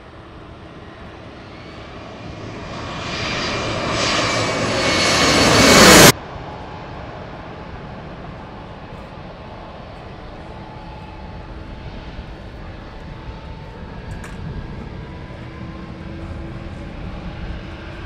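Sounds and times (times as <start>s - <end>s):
airliner jet engines whining overhead: 0.0s - 18.0s.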